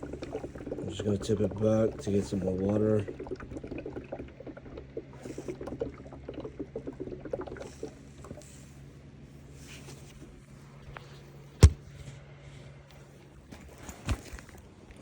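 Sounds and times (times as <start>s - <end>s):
water sloshing and gurgling: 0.0s - 12.1s.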